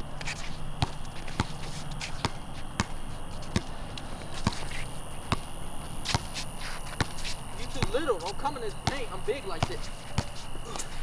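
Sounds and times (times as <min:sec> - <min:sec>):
basketball bouncing: 0:00.2 - 0:03.8, 0:04.4 - 0:10.4.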